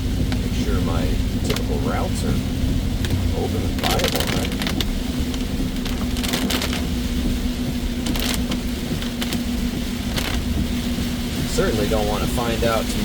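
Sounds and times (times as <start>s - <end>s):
car engine and road rumble: 0.0s - 13.0s
crackling swishes: 0.0s - 13.0s.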